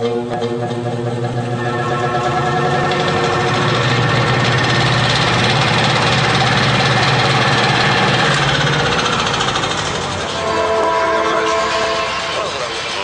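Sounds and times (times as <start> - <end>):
droning chord: 0.0 - 13.0
machine-like rumble with rattling pulse: 0.0 - 13.0.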